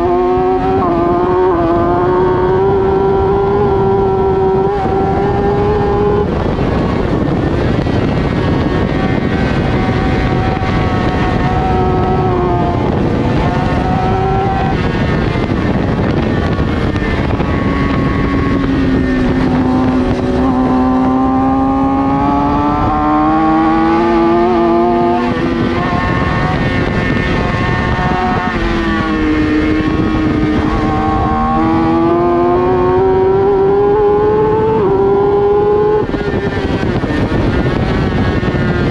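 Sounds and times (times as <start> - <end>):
sportbike engine revving: 0.0 - 38.9
steady rushing noise: 0.0 - 38.9.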